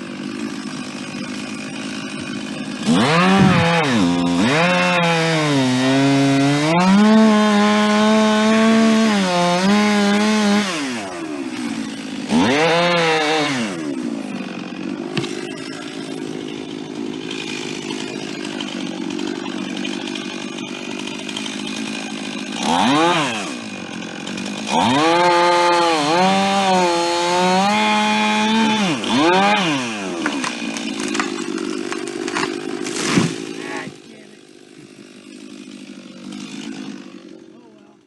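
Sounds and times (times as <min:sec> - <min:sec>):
chainsaw idling and revving: 0:00.0 - 0:38.0.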